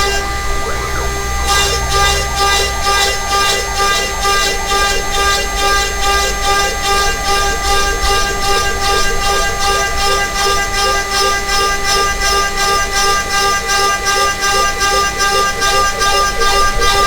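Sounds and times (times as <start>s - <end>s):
end mill cutting plywood: 0.0s - 17.0s
router spindle whining: 0.0s - 17.0s.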